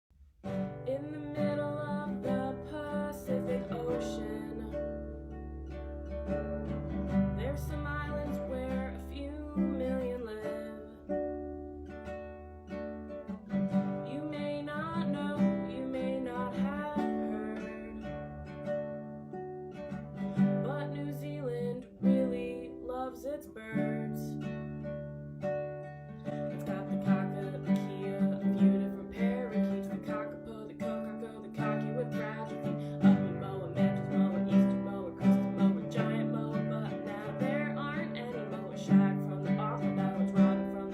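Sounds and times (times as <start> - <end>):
strummed acoustic guitar: 0.2 - 40.9
person singing: 0.7 - 5.4, 6.2 - 11.3, 13.7 - 18.6, 20.2 - 24.6, 26.2 - 40.9.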